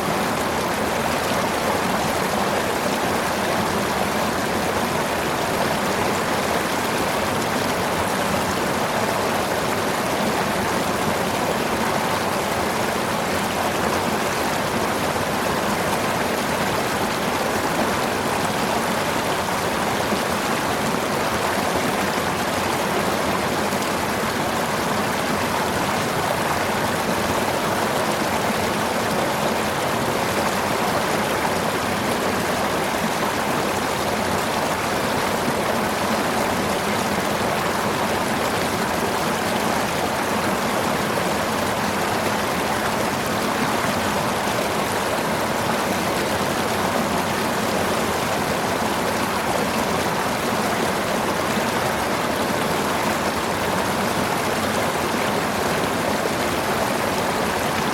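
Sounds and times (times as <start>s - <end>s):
river water flowing over stones: 0.0s - 57.9s.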